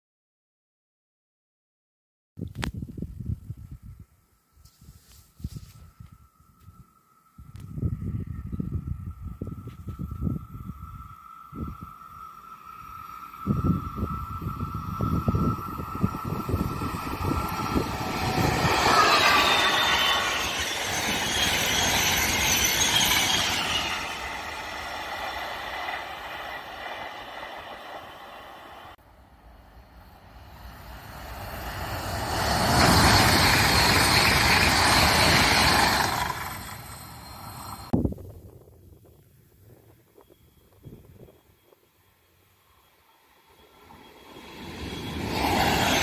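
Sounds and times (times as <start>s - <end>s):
trains passing at speed: 5.1s - 38.0s, 40.1s - 46.0s
high whining tones: 5.8s - 38.0s, 39.8s - 46.0s.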